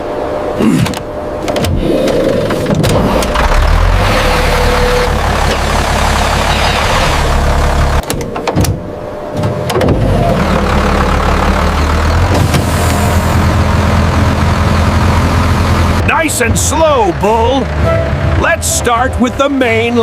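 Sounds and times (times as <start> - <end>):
bulldozer engine running: 0.0 - 20.0.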